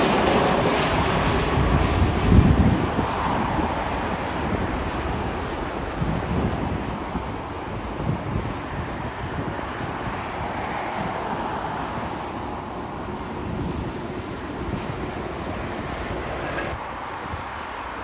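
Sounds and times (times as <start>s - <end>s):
jet engine roar: 0.0s - 18.0s
wind buffeting microphone: 0.0s - 18.0s.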